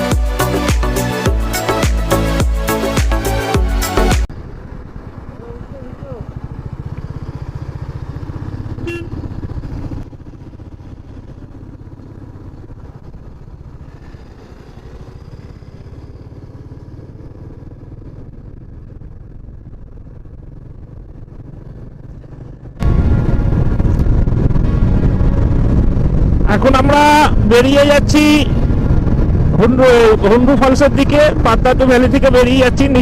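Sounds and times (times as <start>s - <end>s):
motorcycle engine running: 4.2s - 33.0s.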